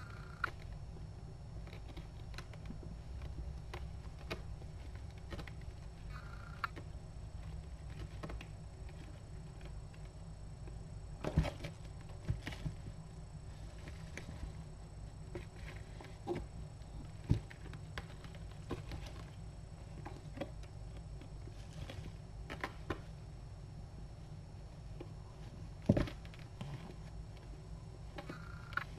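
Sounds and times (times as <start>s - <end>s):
kittens paws tapping and thumping: 0.0s - 23.3s, 24.7s - 28.9s
steady low hum: 0.0s - 28.9s.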